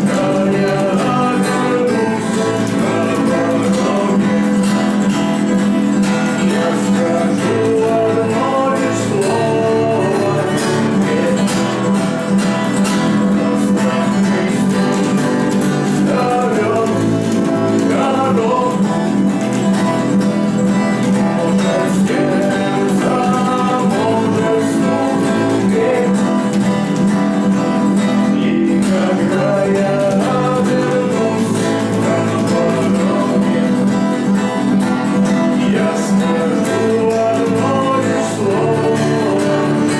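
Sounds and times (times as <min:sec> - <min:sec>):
person singing: 0:00.0 - 0:05.1, 0:06.1 - 0:19.7, 0:20.9 - 0:34.2, 0:35.4 - 0:39.9
acoustic guitar strumming: 0:00.0 - 0:39.9.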